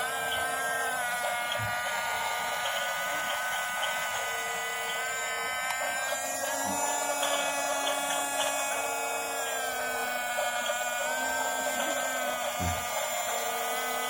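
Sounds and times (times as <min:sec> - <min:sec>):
model bulldozer electric motors whining: 0:00.0 - 0:14.0.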